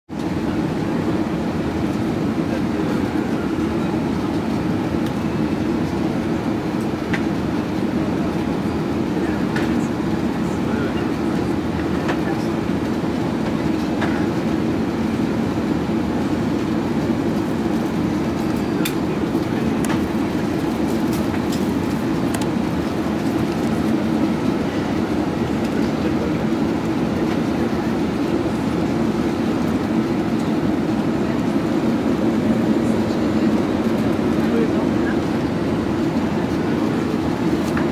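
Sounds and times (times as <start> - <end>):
airplane cabin drone: 0.1 - 37.9.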